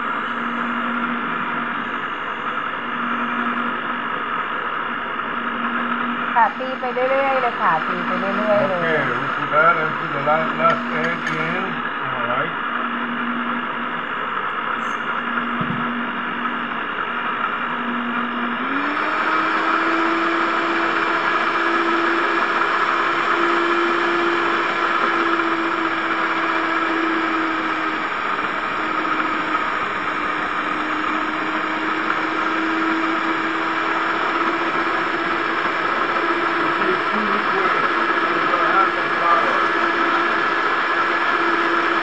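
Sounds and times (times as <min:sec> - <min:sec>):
stand mixer motor whining: 0:00.0 - 0:42.0.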